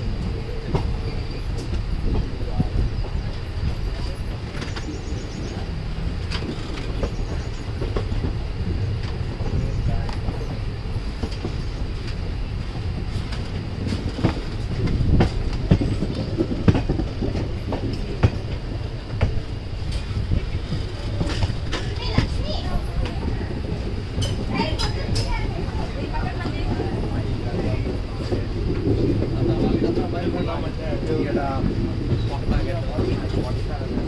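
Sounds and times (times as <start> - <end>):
train rumble and rattle: 0.0 - 34.0
wheels clacking over rail joints: 0.0 - 34.0.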